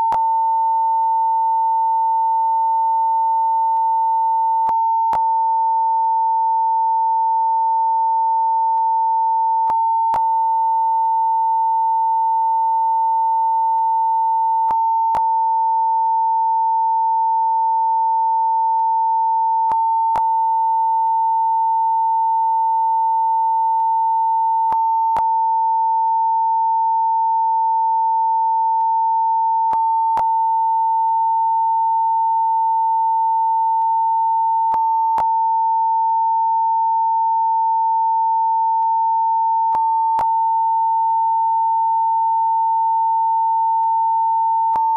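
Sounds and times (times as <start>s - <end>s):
steady censor beep tone: 0.0s - 44.9s.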